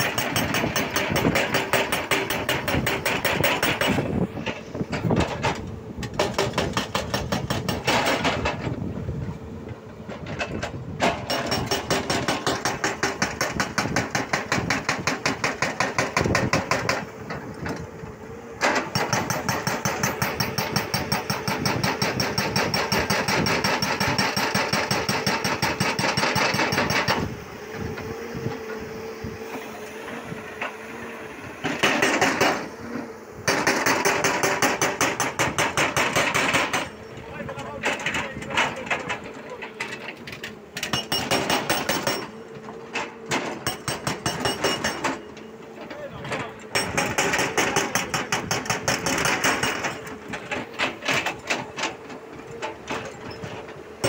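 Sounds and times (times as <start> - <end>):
hydraulic breaker hammering rock: 0.0 - 54.0.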